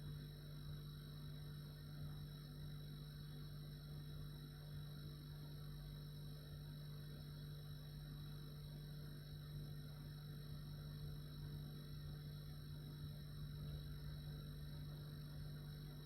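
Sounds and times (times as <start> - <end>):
faint high whine: 0.0 - 16.0
refrigerator humming: 0.0 - 16.0.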